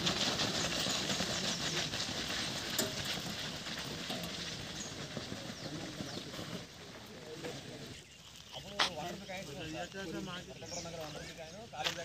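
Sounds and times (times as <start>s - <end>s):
many feet running on dirt: 0.0s - 12.0s.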